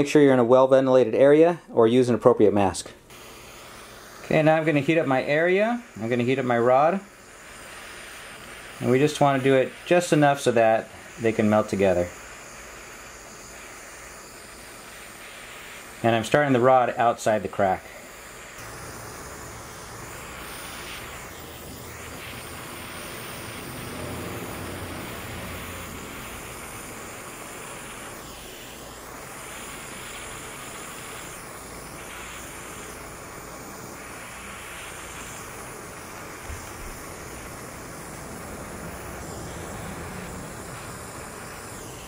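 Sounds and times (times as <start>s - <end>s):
torch flame hissing: 2.6s - 42.0s.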